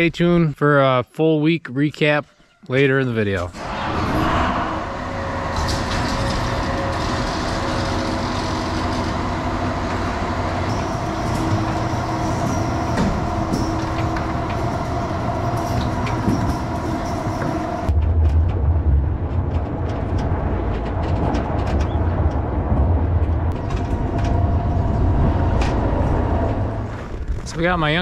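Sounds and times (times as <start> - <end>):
farm machine engine running: 4.9 - 28.0.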